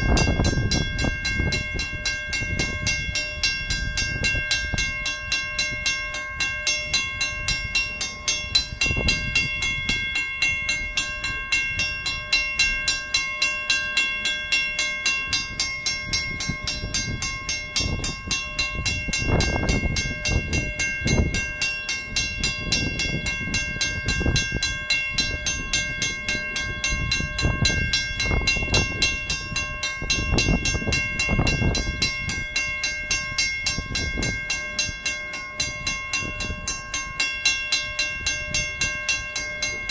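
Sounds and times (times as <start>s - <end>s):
mechanical crossing bell ringing: 0.0s - 39.9s.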